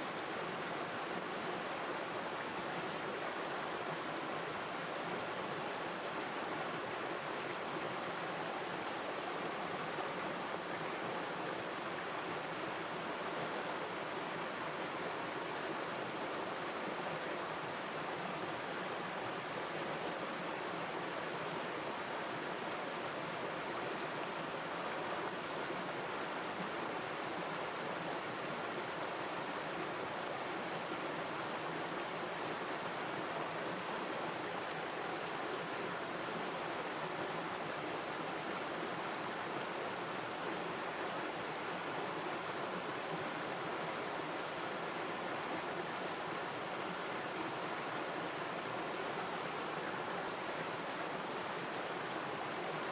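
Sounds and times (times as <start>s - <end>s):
river stream flowing: 0.0s - 52.9s.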